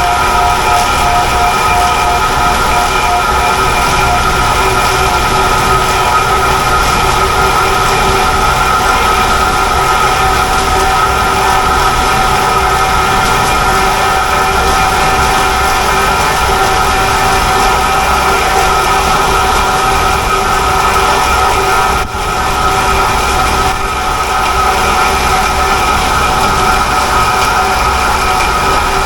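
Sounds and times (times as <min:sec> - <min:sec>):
lathe carving wood: 0:00.0 - 0:29.0.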